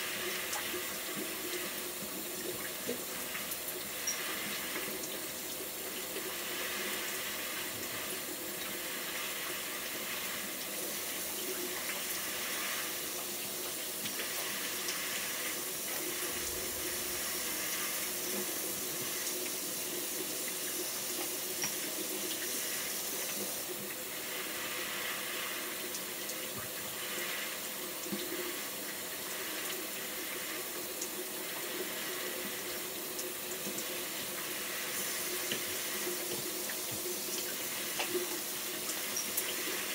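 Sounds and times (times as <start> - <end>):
sink tap running: 0.0 - 39.9.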